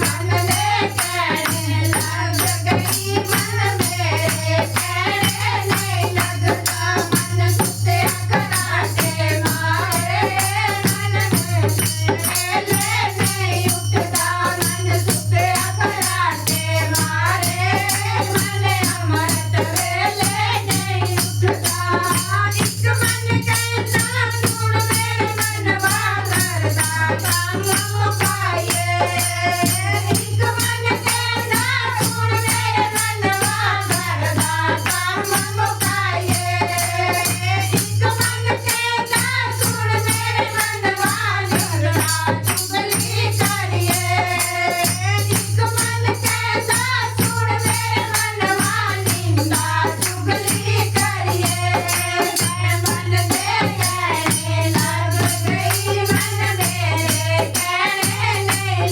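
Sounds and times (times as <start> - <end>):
hand percussion: 0.0 - 58.9
voices singing: 0.0 - 58.9.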